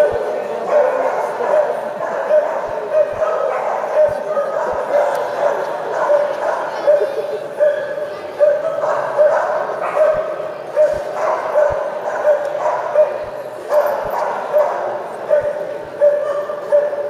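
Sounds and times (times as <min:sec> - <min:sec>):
murmur of chatter: 0:00.0 - 0:17.0.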